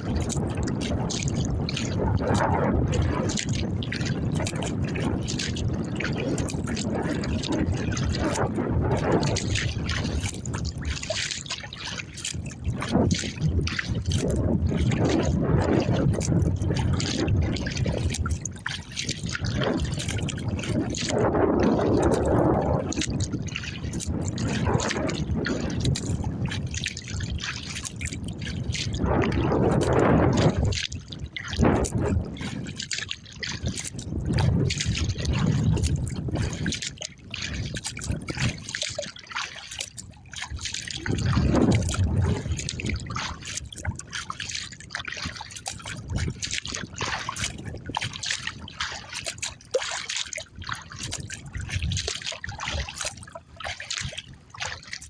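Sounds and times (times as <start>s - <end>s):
water splashing around kayak: 0.0s - 55.0s.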